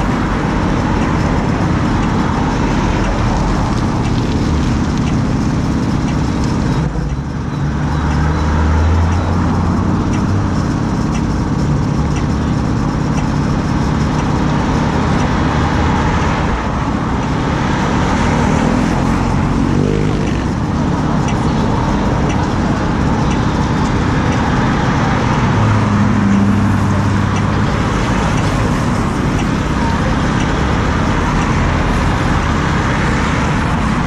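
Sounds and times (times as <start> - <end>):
bicycle road noise: 0.0 - 34.0
low vehicle hum: 0.0 - 34.0
motor traffic: 0.0 - 34.0.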